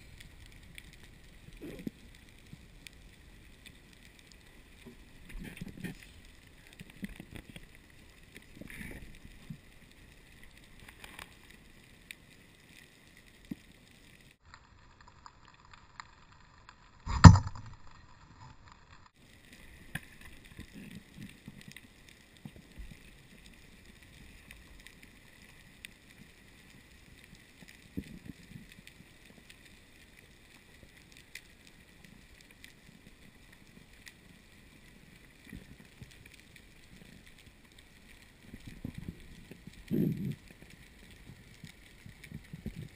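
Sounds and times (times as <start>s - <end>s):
small underwater clicks and knocks: 0.0s - 42.9s.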